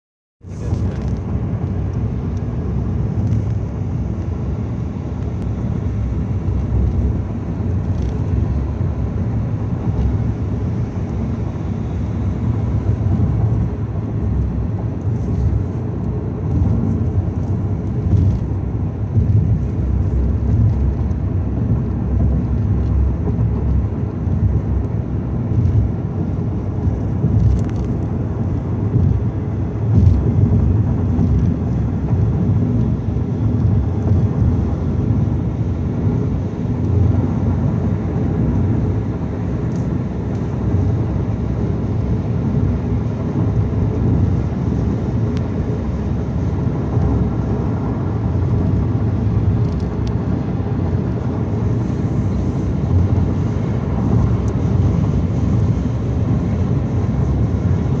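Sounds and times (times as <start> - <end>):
car cabin road noise: 0.4 - 58.0.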